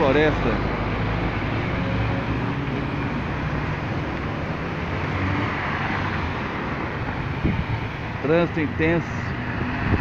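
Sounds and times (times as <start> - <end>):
car engines running: 0.0 - 10.0
tyre noise on road: 0.0 - 10.0.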